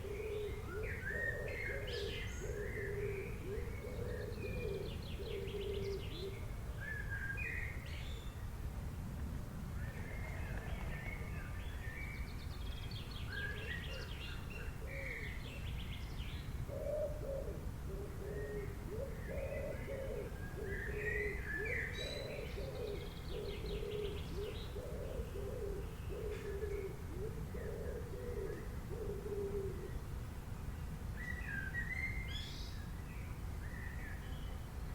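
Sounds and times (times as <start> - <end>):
forest birds singing: 0.0 - 8.6, 9.8 - 34.9.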